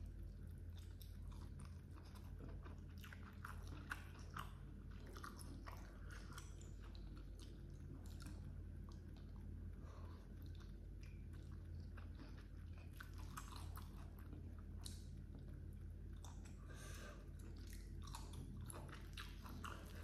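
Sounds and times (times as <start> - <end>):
close-up chewing: 0.0 - 20.0.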